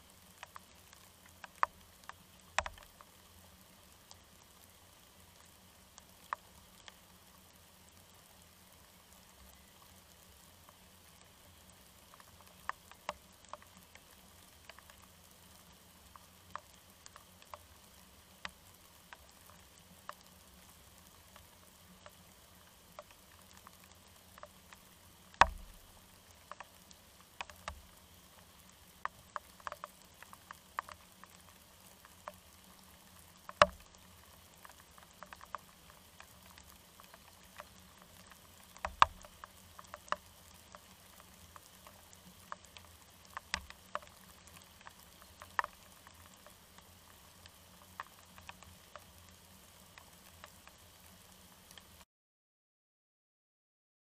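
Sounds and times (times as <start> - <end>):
rain pattering: 0.0 - 52.0
drip ticks: 0.2 - 52.0.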